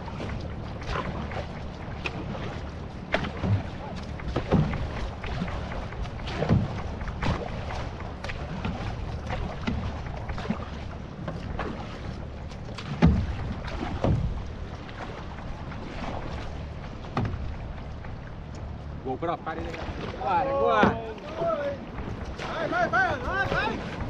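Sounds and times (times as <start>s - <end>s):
paddle strokes splashing water: 0.0s - 24.0s
rush of water: 0.0s - 24.0s
wind buffeting microphone: 0.0s - 24.0s.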